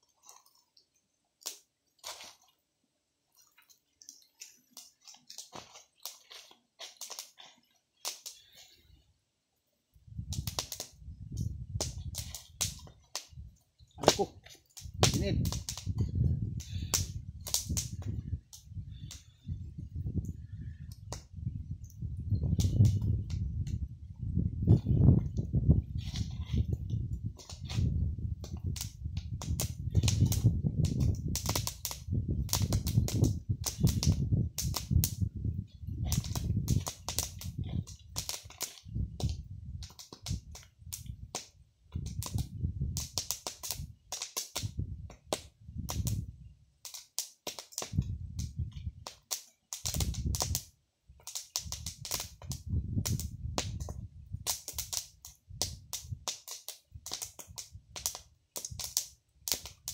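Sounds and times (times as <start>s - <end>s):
wood fire crackling and popping: 0.0s - 2.6s, 3.3s - 8.9s, 10.1s - 59.9s.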